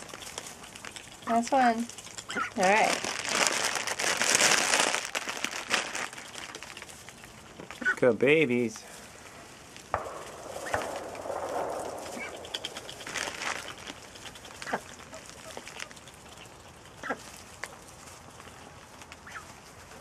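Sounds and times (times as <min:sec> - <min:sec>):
ducks rustling in straw: 0:00.0 - 0:20.0.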